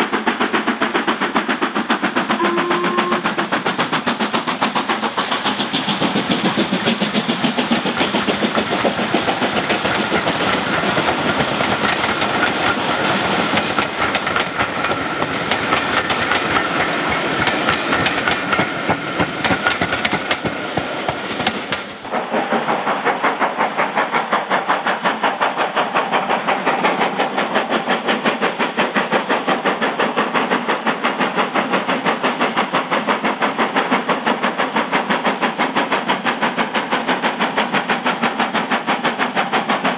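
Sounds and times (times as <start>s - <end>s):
steam locomotive exhaust beating: 0.0s - 39.9s
train wheels clicking over rail joints: 0.0s - 39.9s.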